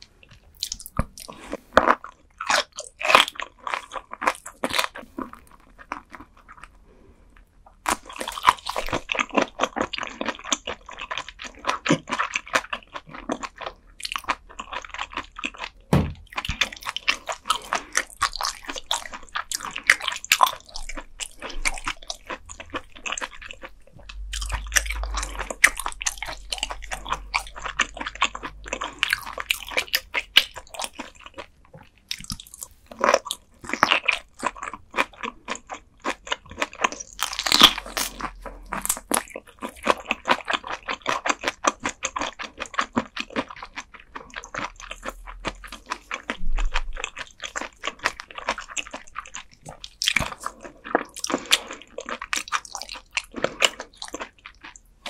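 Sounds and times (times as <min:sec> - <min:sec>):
chewing and crunching bones: 0:00.1 - 0:55.0.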